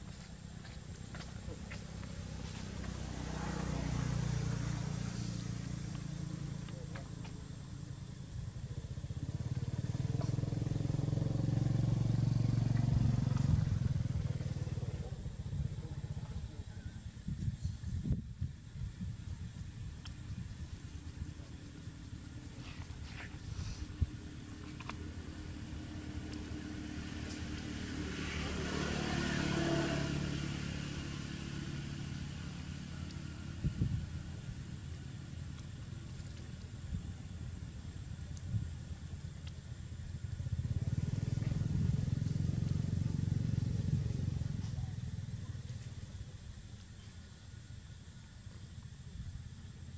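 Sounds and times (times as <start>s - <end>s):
passing vehicle engine hum: 0.0s - 18.2s, 19.4s - 47.1s.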